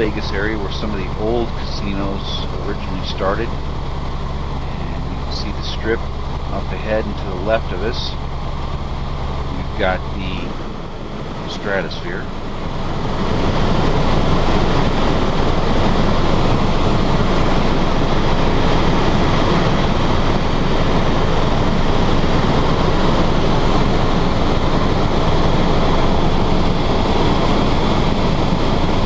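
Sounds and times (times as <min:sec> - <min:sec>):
helicopter cabin noise: 0:00.0 - 0:29.0.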